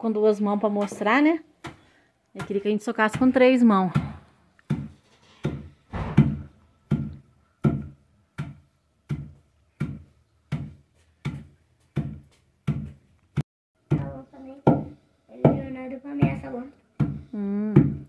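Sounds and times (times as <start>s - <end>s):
pestle pounding in wooden mortar: 0.8s - 18.0s.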